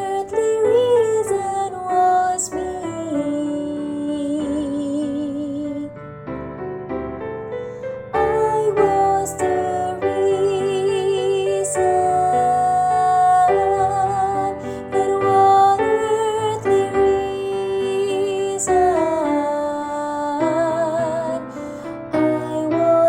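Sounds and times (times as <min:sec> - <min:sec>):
woman singing with vibrato: 0:00.0 - 0:06.0, 0:08.2 - 0:23.0
piano accompaniment: 0:00.0 - 0:23.0.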